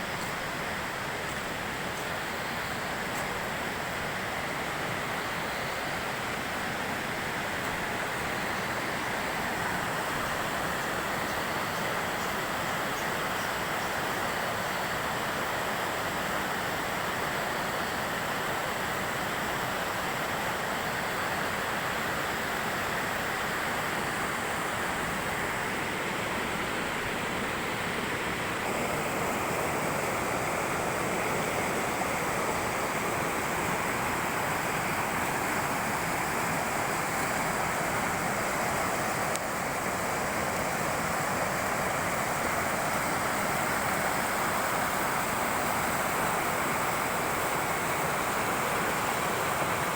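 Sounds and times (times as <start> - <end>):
waterfall roaring: 0.0 - 49.9.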